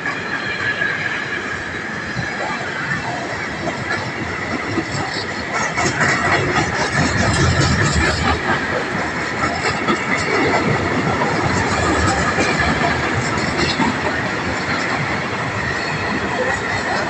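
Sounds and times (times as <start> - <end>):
freight train wagons rumbling: 0.0 - 17.0.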